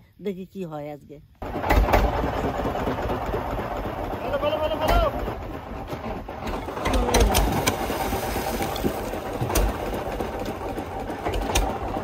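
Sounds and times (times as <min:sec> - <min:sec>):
boat engine running: 0:01.4 - 0:12.0.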